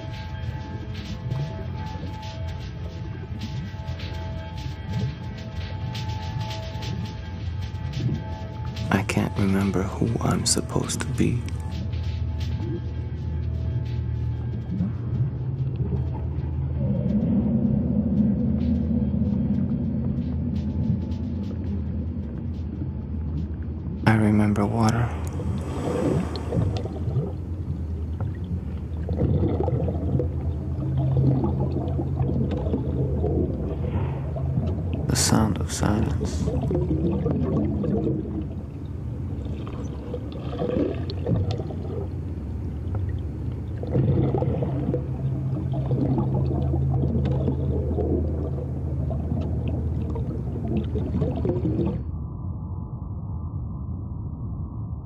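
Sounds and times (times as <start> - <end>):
low churning drone: 0.0 - 55.0
steady low hum: 0.0 - 55.0
underwater-like water gurgling: 0.0 - 55.0.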